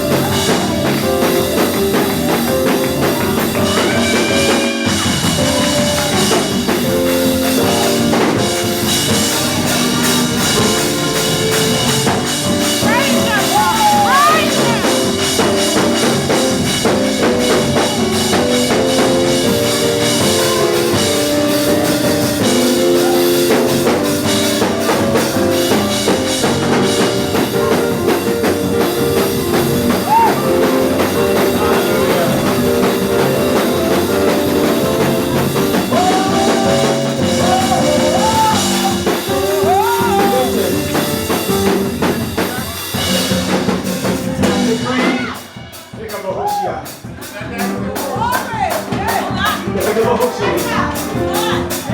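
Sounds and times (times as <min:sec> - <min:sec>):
voices calling out: 0:00.0 - 0:45.8
drum kit fast beat: 0:00.0 - 0:51.9
keyboard chords: 0:00.0 - 0:51.9.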